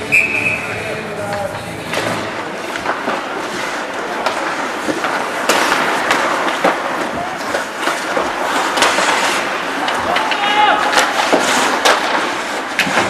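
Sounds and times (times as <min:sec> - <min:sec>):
hockey sticks and puck clacking: 0:00.0 - 0:13.0
skate blades scraping ice: 0:00.0 - 0:13.0.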